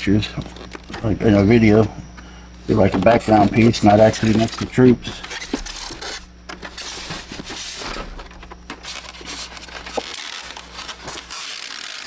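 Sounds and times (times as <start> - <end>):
plastic toy and packaging handling: 0.0 - 1.9, 2.6 - 12.0.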